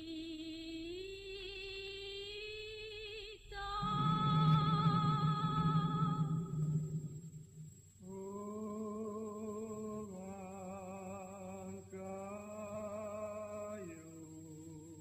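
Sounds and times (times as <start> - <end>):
person singing chant-like melody: 0.0 - 15.0.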